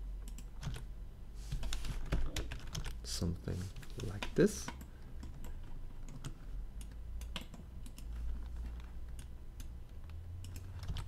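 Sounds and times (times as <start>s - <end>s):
low steady hum: 0.0s - 11.0s
keyboard and mouse clicking: 0.2s - 0.9s, 1.5s - 3.0s, 3.7s - 11.0s.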